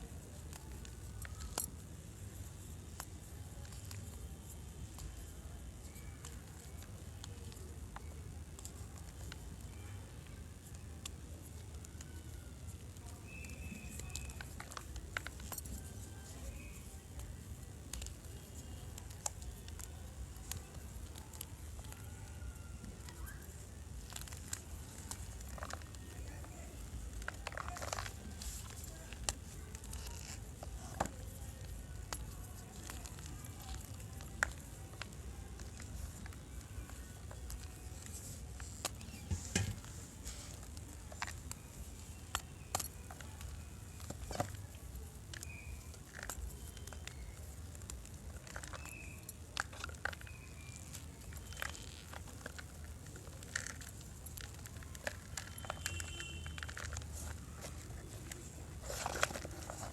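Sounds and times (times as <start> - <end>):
chalk cracking and crumbling: 10.6 - 59.9.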